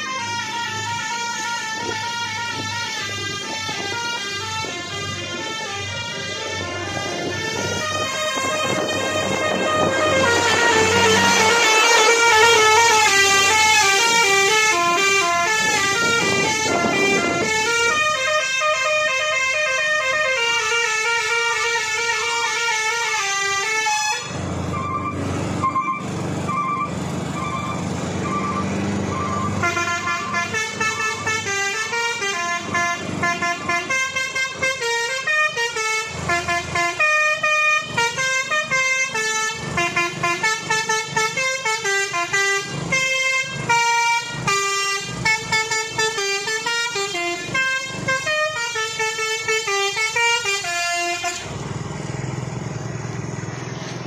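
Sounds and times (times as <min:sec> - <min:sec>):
multi-tone air horn melody: 0:00.0 - 0:51.5
diesel engine running: 0:00.0 - 0:54.0.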